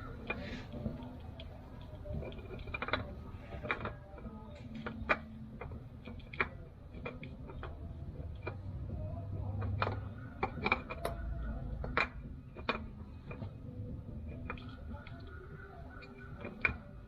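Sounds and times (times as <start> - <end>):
small objects clicking and tapping: 0.0 - 17.0.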